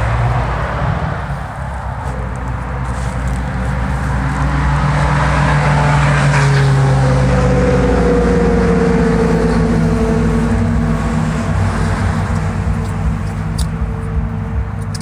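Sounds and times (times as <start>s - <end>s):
vehicle engine passing: 0.0s - 15.0s.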